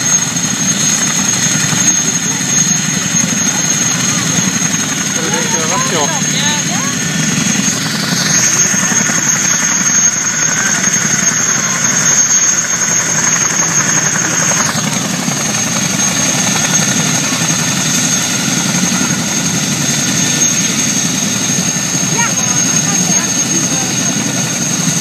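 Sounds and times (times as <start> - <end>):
helicopter engines whining: 0.0 - 25.0
helicopter rotor noise: 0.0 - 25.0.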